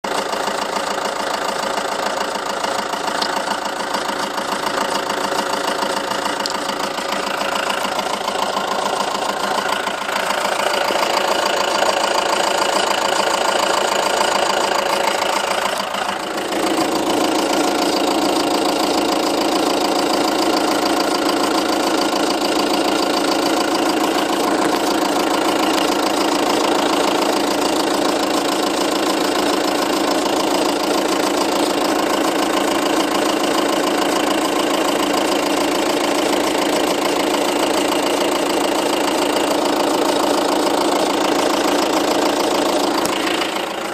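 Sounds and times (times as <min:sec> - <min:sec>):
diesel engine idling: 0:00.0 - 0:43.9
engine ticking and rattle: 0:00.0 - 0:43.9.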